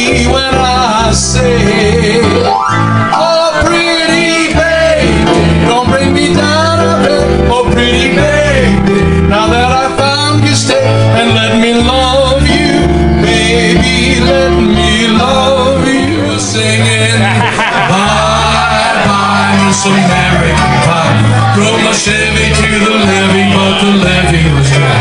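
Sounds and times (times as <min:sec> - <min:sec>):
man singing into a microphone: 0:00.0 - 0:25.0
piano accompaniment: 0:00.0 - 0:25.0.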